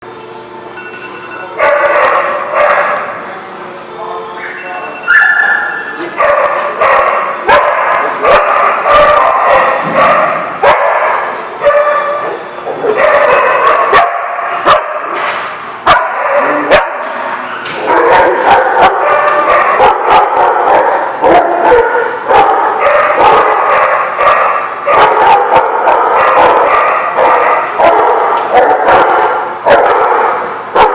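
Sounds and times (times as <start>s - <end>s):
dogs barking and yipping: 1.6s - 3.1s, 4.5s - 30.9s.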